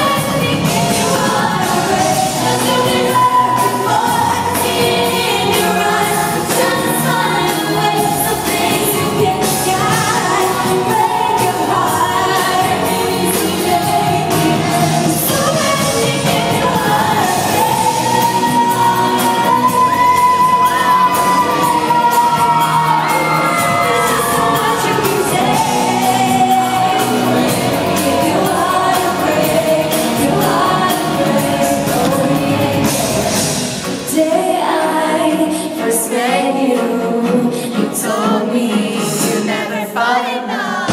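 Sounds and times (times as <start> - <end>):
band playing: 0.0 - 34.5
live pop music with female singer: 0.0 - 40.9.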